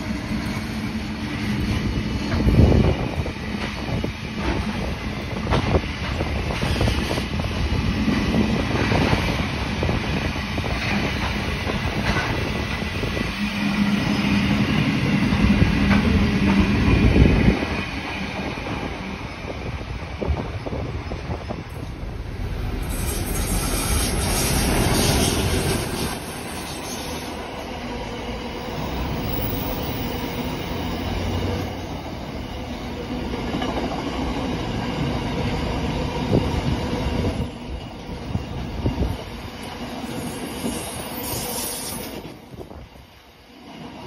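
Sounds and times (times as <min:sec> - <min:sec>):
steel wheels rumbling on rail: 0:00.0 - 0:44.0.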